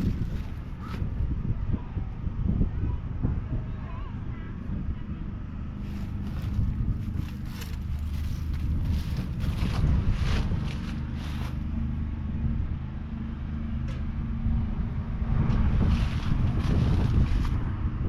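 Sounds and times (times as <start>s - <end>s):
diesel engine running: 0.0s - 1.5s, 4.6s - 18.0s
wind buffeting microphone: 0.0s - 12.8s, 14.2s - 18.0s.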